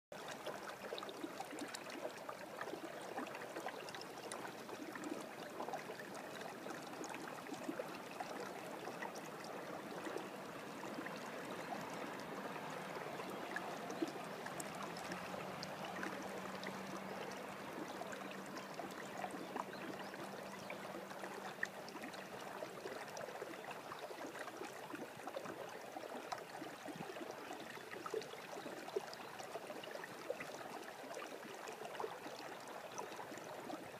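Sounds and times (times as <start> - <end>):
shallow water trickling: 0.2 - 33.9.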